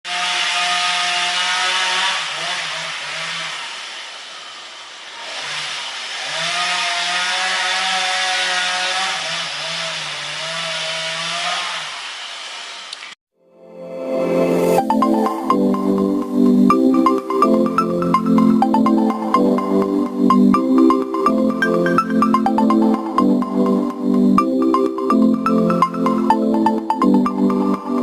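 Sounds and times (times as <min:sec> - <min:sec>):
power saw cutting: 0:00.0 - 0:13.2, 0:14.9 - 0:28.0.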